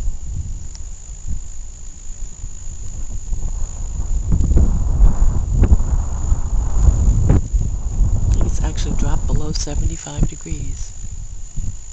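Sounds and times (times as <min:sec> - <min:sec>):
low microphone rumble: 0:00.0 - 0:11.9
night insects chorus: 0:00.0 - 0:11.9.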